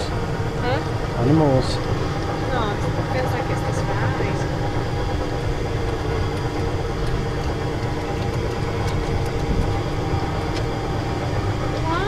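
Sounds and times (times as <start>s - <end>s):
ride car rumbling on track: 0.0s - 12.0s.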